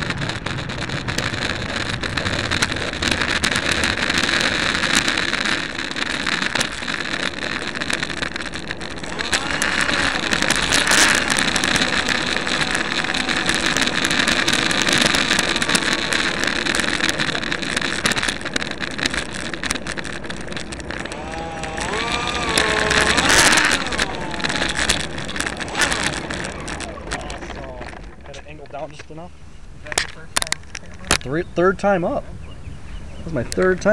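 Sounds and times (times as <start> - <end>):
electric ducted fan whining: 0.0 - 33.9.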